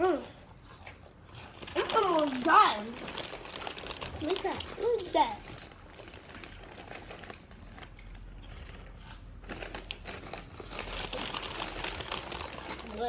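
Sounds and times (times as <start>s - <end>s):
snack bag rustling and crackling: 0.0s - 13.0s.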